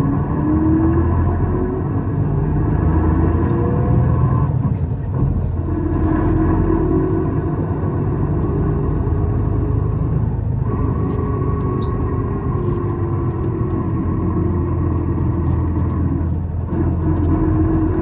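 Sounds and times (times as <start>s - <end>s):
bus engine rumble with whine: 0.0s - 18.0s.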